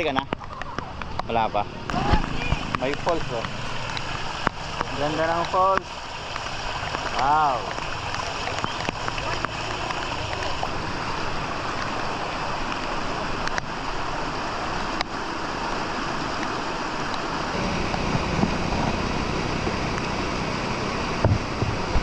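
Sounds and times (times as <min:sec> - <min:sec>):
rain falling: 0:00.0 - 0:22.0
waterfall rushing: 0:00.0 - 0:22.0.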